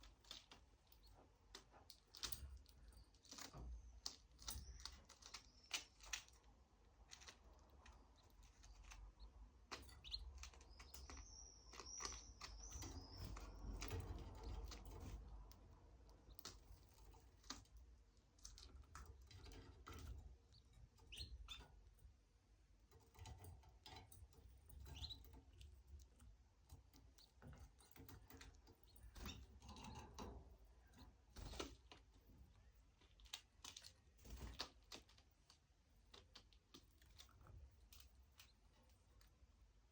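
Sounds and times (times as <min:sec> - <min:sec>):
canary chirps: 0:00.0 - 0:39.9
small clicks and scratches: 0:00.0 - 0:39.9.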